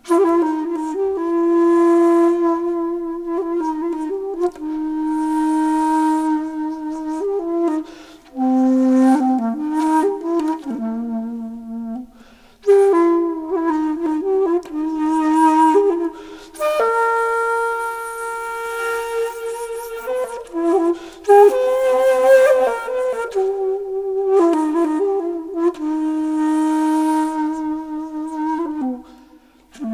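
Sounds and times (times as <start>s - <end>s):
slow solo melody with bending notes: 0.0s - 12.1s, 12.7s - 29.0s.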